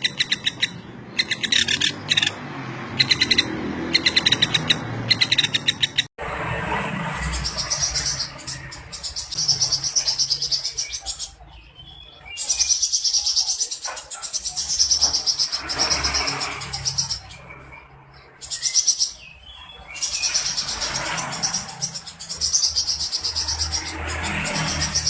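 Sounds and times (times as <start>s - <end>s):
high pulsing bird trill: 0.0s - 2.4s, 3.0s - 6.1s, 6.8s - 25.0s
bird chirping calls: 0.0s - 25.0s.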